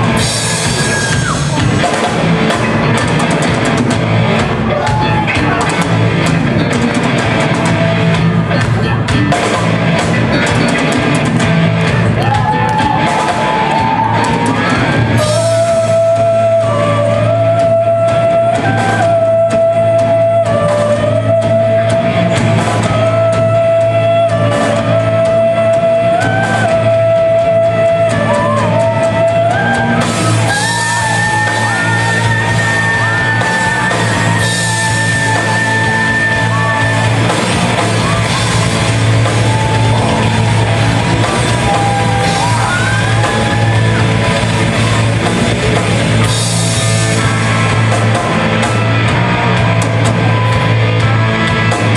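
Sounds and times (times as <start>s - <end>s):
bending lead guitar melody: 0.0s - 51.9s
live rock band: 0.0s - 51.9s.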